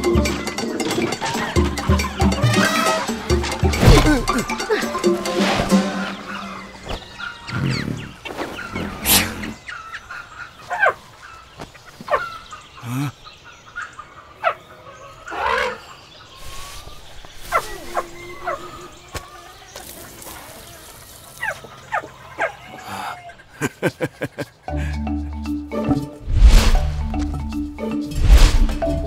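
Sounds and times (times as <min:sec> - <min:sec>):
chickens clucking: 0:00.0 - 0:26.2.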